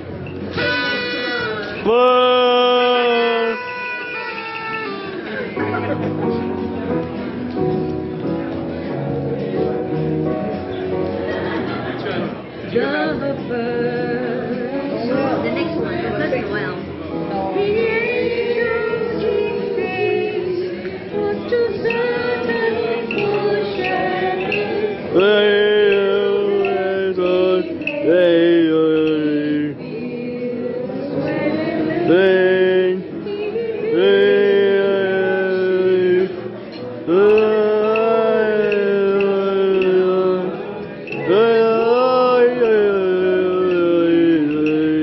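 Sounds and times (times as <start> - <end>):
person singing slow melody: 0.5 - 6.5, 12.6 - 16.4, 17.2 - 45.0.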